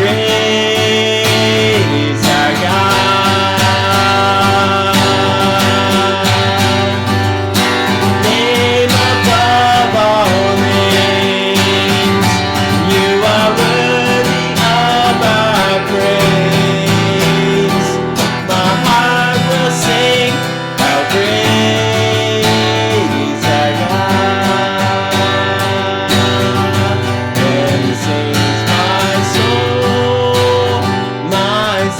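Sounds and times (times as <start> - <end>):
strummed acoustic guitar: 0.0 - 31.9.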